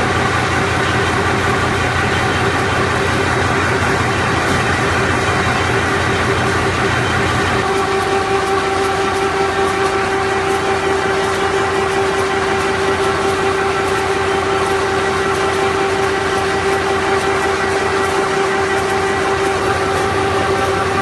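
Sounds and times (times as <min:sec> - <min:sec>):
machine hum: 0:00.0 - 0:21.0
rapid mechanical clatter: 0:00.0 - 0:21.0.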